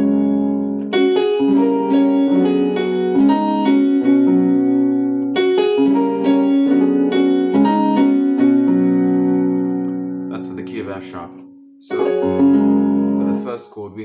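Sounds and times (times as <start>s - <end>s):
keyboard playing sustained chords: 0.0s - 13.7s.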